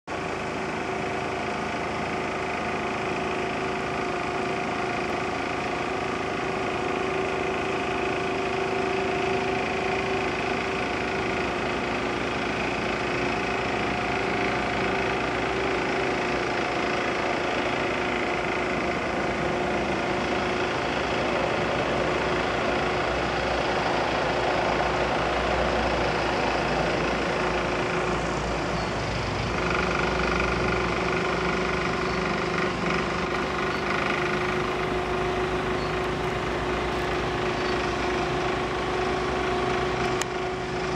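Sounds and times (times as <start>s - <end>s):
tractor engine running: 0.1s - 40.9s.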